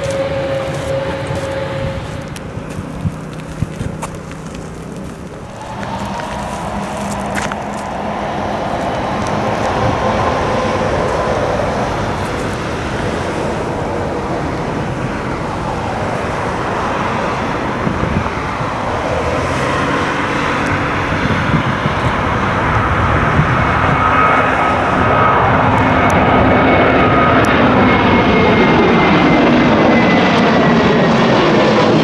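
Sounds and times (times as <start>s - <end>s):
jet engines at takeoff: 0.0s - 32.0s.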